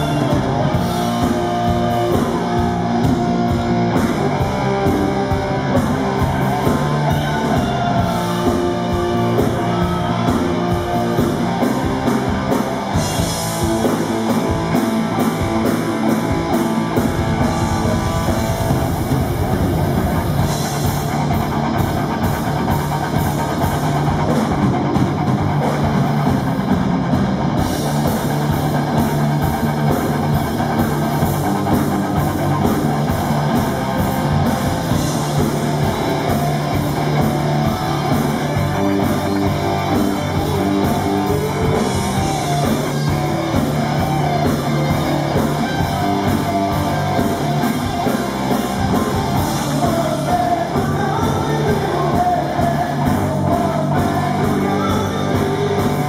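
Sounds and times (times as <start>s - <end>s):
drum kit: 0.0s - 56.0s
electric guitars: 0.0s - 56.0s
hard rock band playing: 0.0s - 56.0s.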